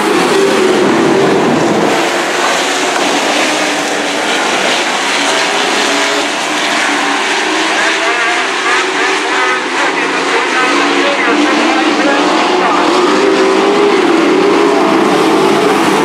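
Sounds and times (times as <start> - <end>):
race truck engines: 0.0 - 16.0.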